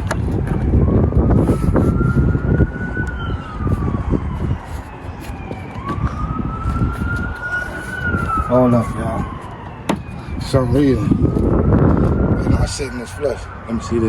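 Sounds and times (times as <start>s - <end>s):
emergency vehicle siren wailing: 0.0s - 14.0s.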